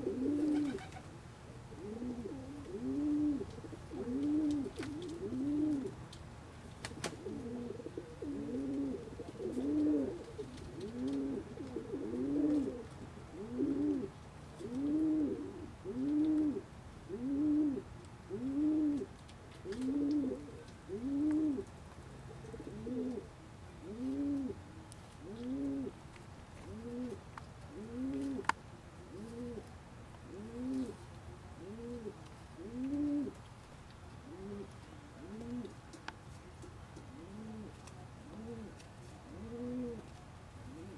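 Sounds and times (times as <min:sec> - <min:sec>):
pigeon cooing: 0:00.0 - 0:06.0, 0:07.0 - 0:26.0, 0:26.6 - 0:29.7, 0:30.3 - 0:33.4, 0:34.2 - 0:35.8, 0:37.0 - 0:40.9.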